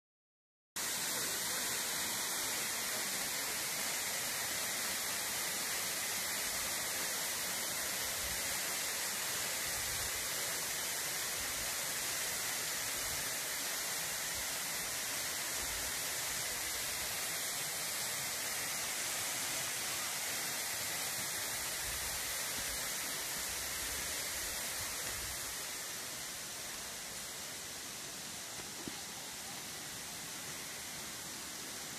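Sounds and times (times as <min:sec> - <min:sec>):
waterfall rushing: 0:00.8 - 0:31.9.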